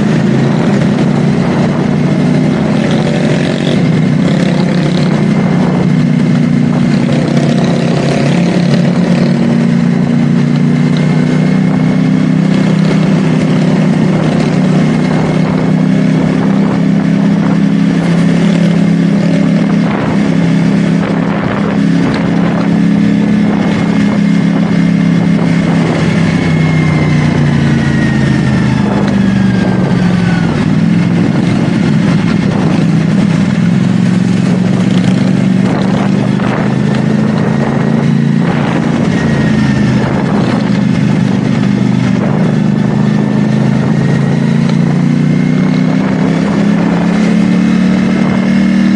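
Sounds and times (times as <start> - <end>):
motorcycle engine cruising: 0.0 - 48.9
wind rush: 0.0 - 48.9.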